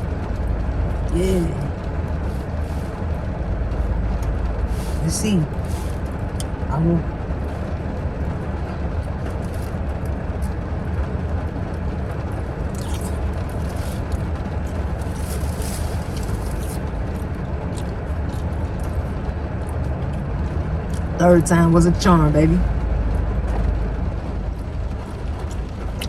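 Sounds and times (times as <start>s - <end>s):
car interior rumble: 0.0s - 26.0s.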